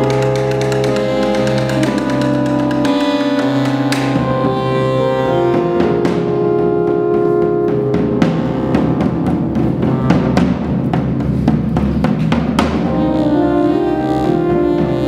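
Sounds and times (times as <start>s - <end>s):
drum beaten with a stick: 0.0s - 4.7s, 5.5s - 13.2s.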